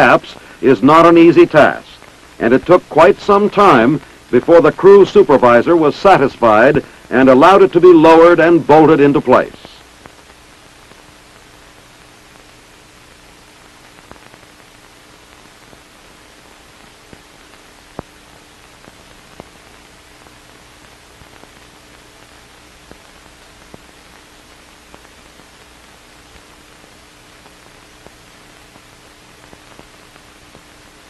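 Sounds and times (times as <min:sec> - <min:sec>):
faint hum: 0:00.0 - 0:31.0
film soundtrack hiss: 0:00.0 - 0:31.0.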